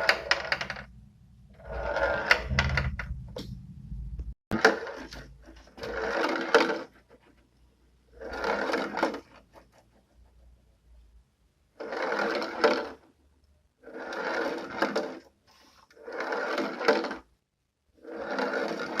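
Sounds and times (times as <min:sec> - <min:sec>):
beads rolling across plastic tray: 0:00.0 - 0:03.5, 0:04.6 - 0:10.4, 0:11.7 - 0:19.0.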